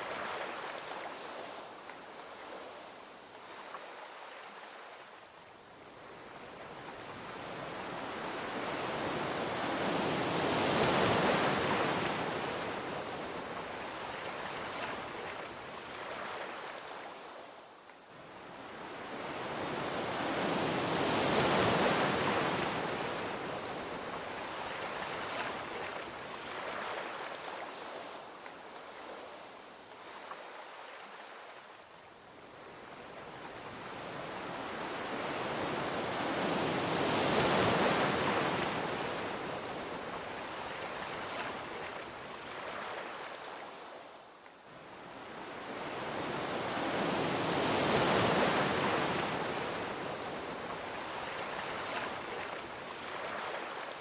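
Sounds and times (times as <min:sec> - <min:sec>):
gentle ocean waves breaking: 0:00.0 - 0:54.0.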